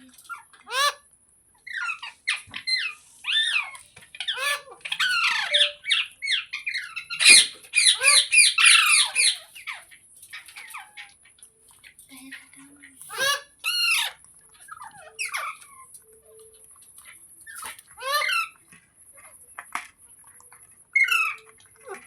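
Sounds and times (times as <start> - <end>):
parakeet squawking and chattering: 0.3 - 16.2, 17.0 - 19.4, 20.9 - 22.0.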